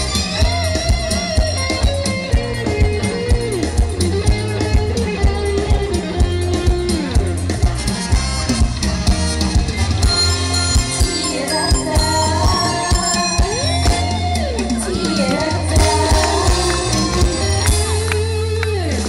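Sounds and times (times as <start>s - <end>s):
bass line: 0.0s - 19.0s
stage band music over loudspeakers: 0.0s - 19.0s
steady drum beat: 0.0s - 19.0s.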